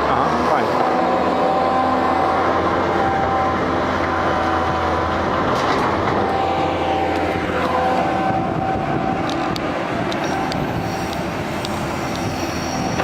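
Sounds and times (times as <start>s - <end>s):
excavator diesel engine: 0.0s - 13.0s
steady whine: 0.0s - 13.0s.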